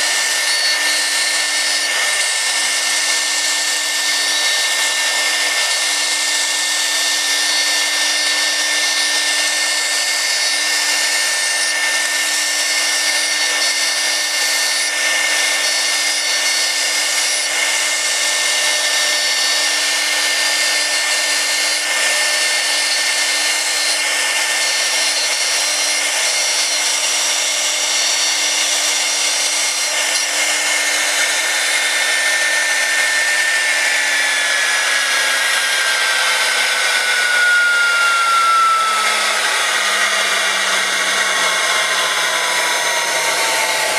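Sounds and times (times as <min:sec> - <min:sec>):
bit cutting acrylic: 0:00.0 - 0:43.9
router spindle whine: 0:00.0 - 0:43.9.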